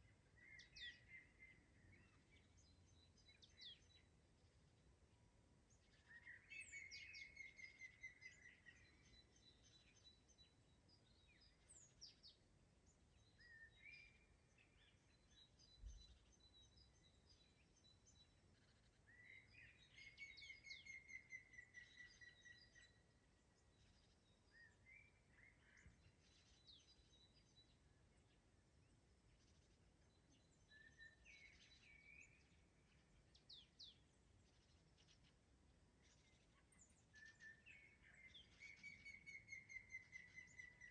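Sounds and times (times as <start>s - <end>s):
songbirds trilling and chirping: 0.0s - 40.9s.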